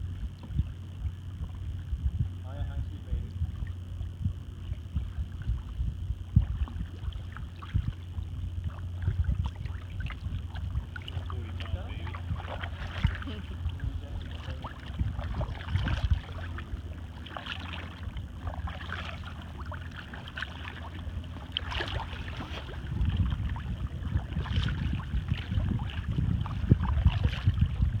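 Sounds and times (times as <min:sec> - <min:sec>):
wind buffeting microphone: 0:00.0 - 0:28.0
paddle splashing water: 0:04.6 - 0:28.0.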